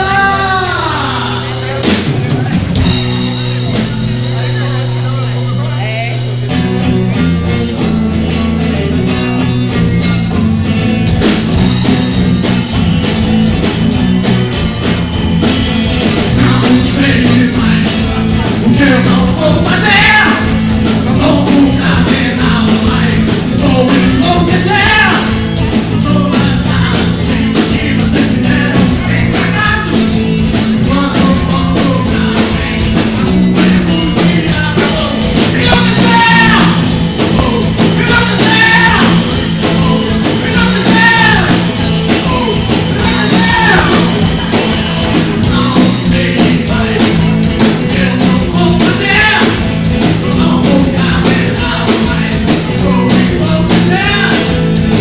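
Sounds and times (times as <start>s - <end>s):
lead vocal singing: 0.0s - 4.7s, 15.5s - 55.0s
rock band playing: 0.0s - 55.0s.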